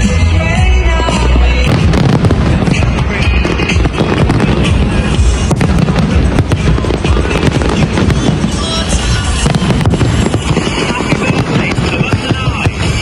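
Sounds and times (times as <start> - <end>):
fireworks bangs and crackles: 0.0 - 13.0
loud music: 0.0 - 13.0.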